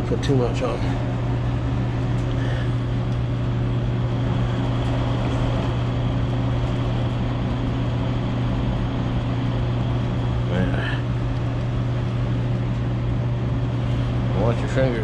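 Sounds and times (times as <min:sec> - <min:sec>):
blower motor humming: 0:00.0 - 0:15.0.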